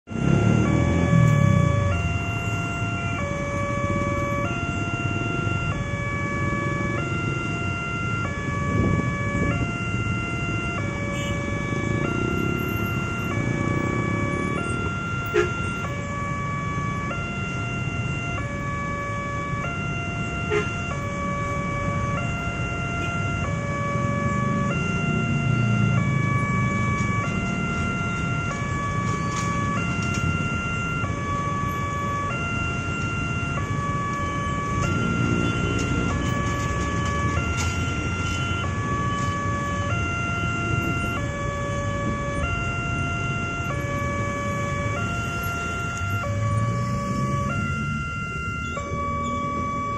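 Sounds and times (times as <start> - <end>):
idling engines rumbling: 0.0 - 49.9
two-tone crossing alarm: 0.1 - 49.9.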